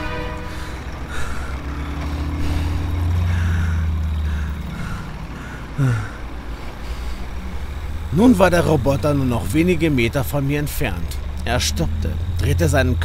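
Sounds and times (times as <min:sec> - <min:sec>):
robot vehicle engine drone: 0:00.0 - 0:13.0.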